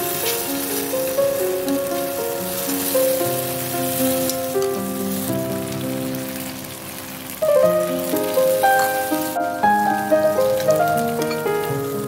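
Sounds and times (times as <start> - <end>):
food sizzling in frying pan: 0.0 - 12.0
slow held-note background music: 0.0 - 12.0.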